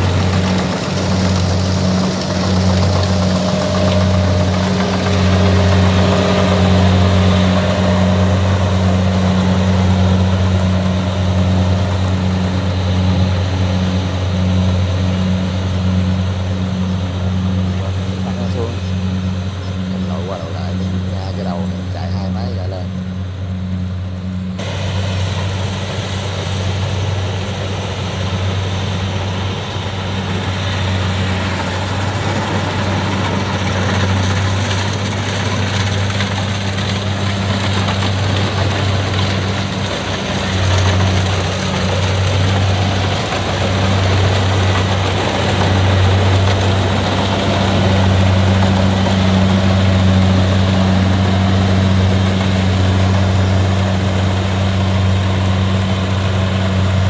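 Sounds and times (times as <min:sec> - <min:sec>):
diesel engine running steadily: 0:00.0 - 0:57.0.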